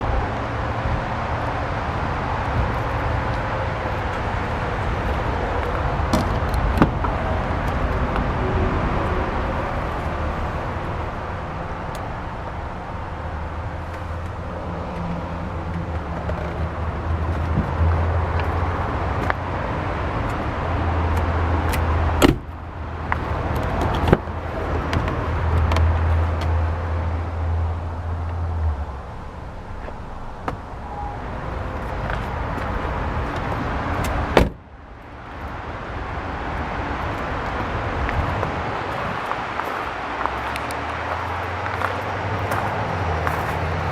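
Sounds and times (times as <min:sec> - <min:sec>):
outdoor noise: 0:00.0 - 0:43.9
vehicle engine humming: 0:00.0 - 0:43.9.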